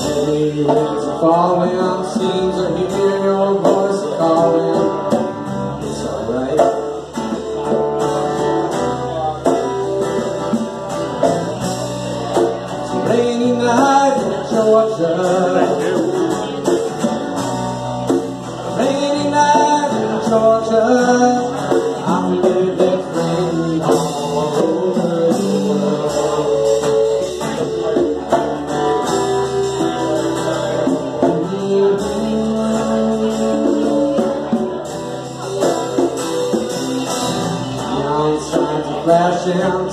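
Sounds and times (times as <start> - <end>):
electric bass: 0.0 - 39.9
electric guitars: 0.0 - 39.9
man singing lead: 0.0 - 39.9.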